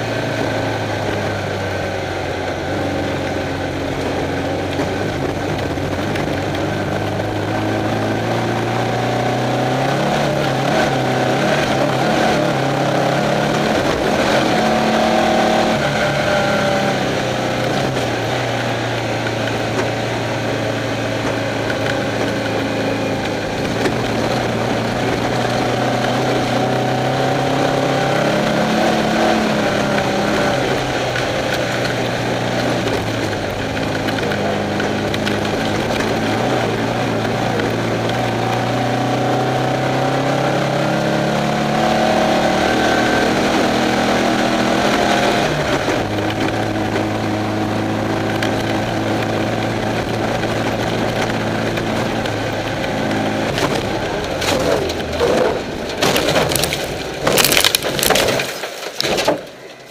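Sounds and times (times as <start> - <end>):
race car engine revving: 0.0 - 59.4.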